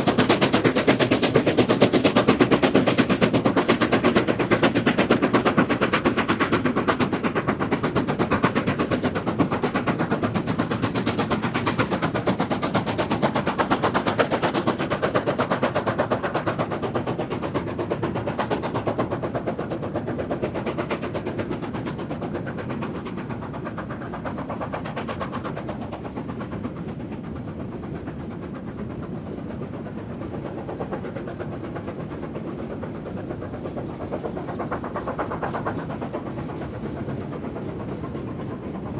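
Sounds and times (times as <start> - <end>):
steam locomotive exhaust beats: 0.0 - 38.9.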